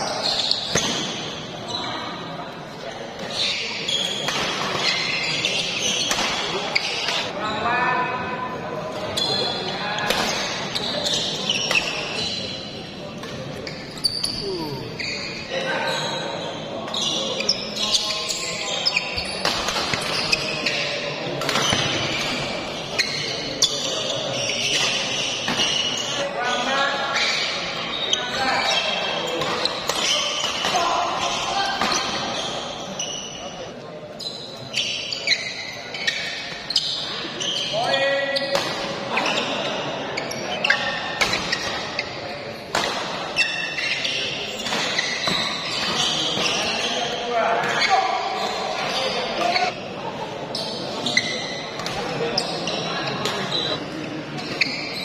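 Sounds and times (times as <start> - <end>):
shoes squeaking on floor: 0.0 - 2.2, 2.9 - 7.4, 9.0 - 26.4, 27.1 - 55.0.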